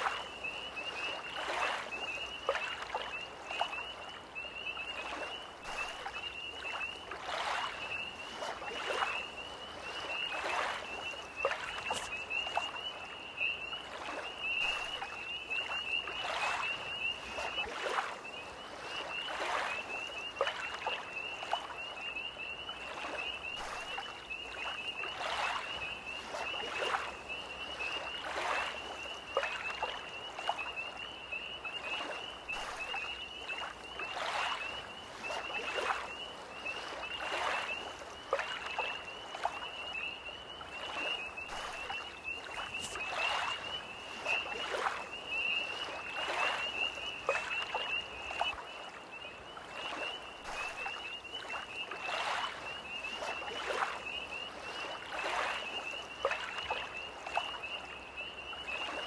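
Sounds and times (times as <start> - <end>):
lake waves lapping: 0.0 - 21.8, 22.9 - 31.1, 31.9 - 59.0
tree frogs trilling: 0.0 - 59.0.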